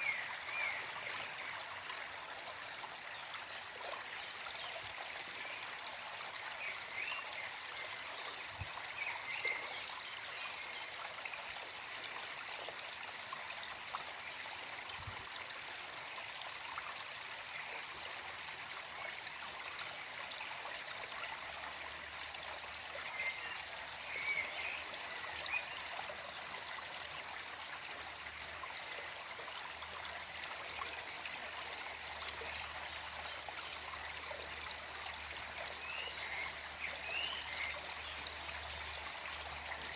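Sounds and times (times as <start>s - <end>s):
stream flowing and trickling: 0.0s - 39.9s
water gurgles: 0.0s - 39.9s.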